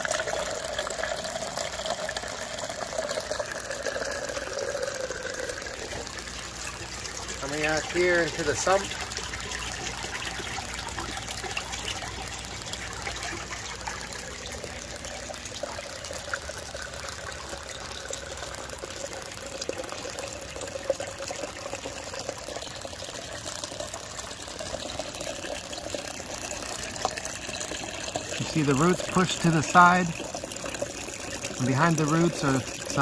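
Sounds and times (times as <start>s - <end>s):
water rushing through a pipe: 0.0s - 33.0s.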